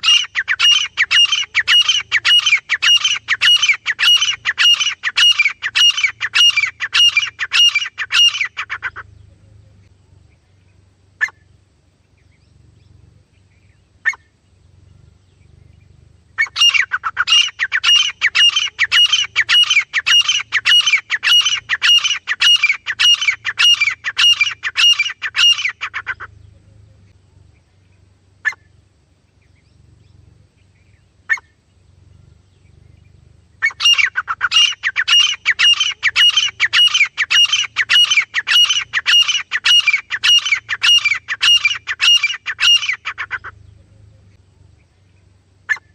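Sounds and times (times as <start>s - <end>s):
francolin shrill calls: 0.0s - 9.2s, 10.3s - 45.9s.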